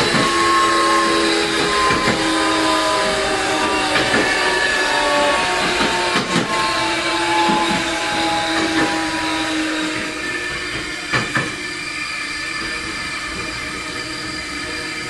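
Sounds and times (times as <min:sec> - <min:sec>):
electric train running: 0:00.0 - 0:15.0
inverter and motor tones: 0:00.0 - 0:15.0.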